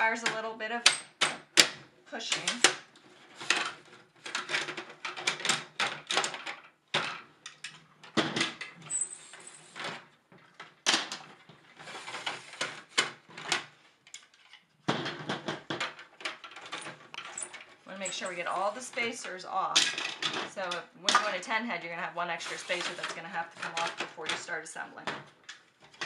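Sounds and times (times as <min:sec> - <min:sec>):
plastic parts clicking and clattering: 0:00.1 - 0:21.6, 0:22.4 - 0:26.0.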